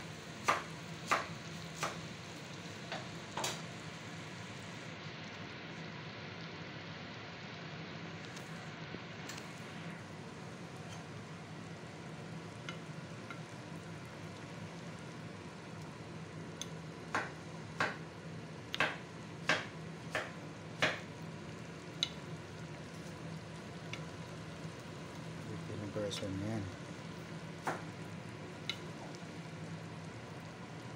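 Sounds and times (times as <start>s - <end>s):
stew simmering and sizzling: 0.0s - 30.9s.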